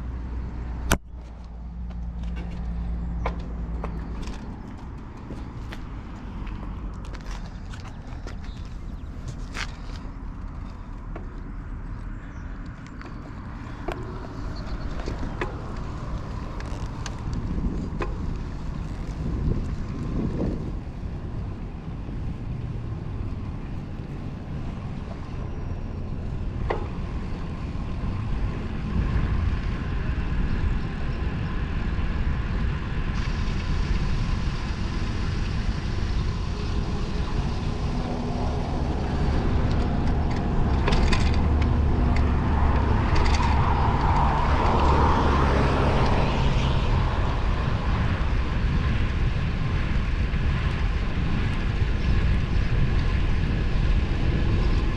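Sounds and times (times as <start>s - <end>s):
motor vehicle passing: 0.0s - 54.9s
road traffic: 0.0s - 54.9s
wind noise on microphone: 0.0s - 54.9s.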